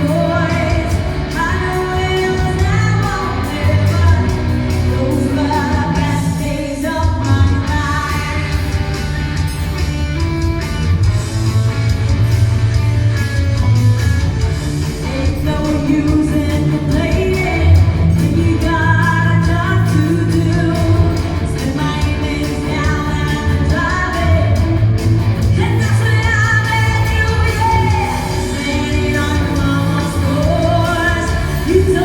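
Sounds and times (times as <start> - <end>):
lead singer singing: 0.0 - 9.0, 14.9 - 32.0
live band playing: 0.0 - 32.0.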